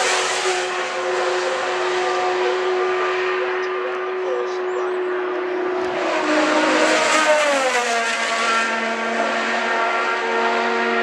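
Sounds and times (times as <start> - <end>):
racing motorcycle passing: 0.0 - 11.0.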